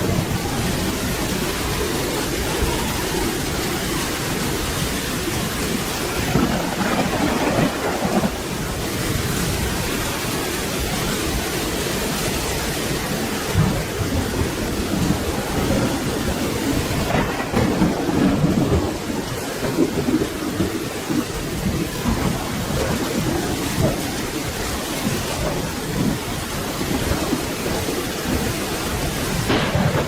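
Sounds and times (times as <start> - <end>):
low rolling thunder: 0.0 - 30.0
rain falling: 0.0 - 30.0.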